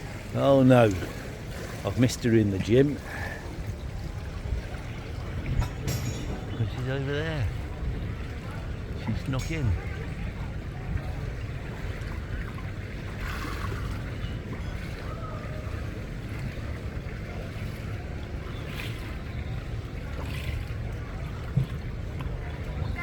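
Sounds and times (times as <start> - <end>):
faint outdoor ambience: 0.0 - 23.0
wind buffeting microphone: 0.0 - 23.0.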